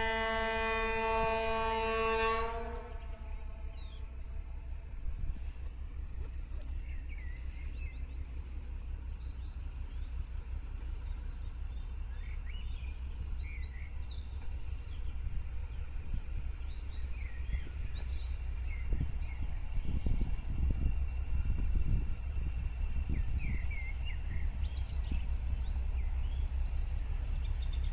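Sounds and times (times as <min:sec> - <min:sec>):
distant locomotive rumble: 0:00.0 - 0:27.9
birds chirping: 0:02.3 - 0:27.9.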